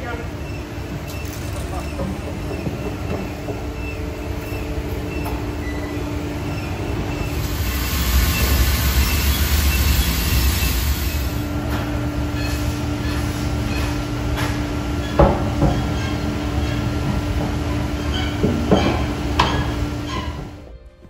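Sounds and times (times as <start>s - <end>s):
machinery rumble: 0.0s - 21.0s.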